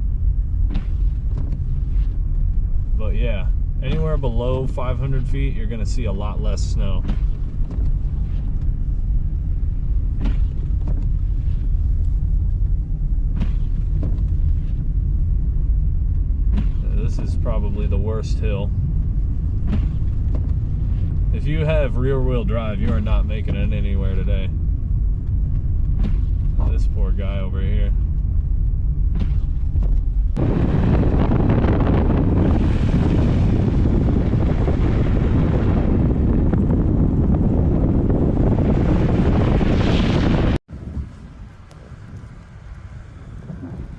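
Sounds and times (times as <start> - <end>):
car driving on snow: 0.0 - 43.9
road rumble: 0.0 - 43.9
wind buffeting microphone: 0.0 - 43.9.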